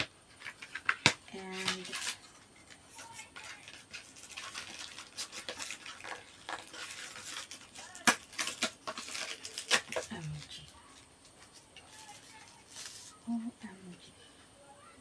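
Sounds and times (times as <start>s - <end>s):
plastic packaging rustling: 0.0s - 13.3s.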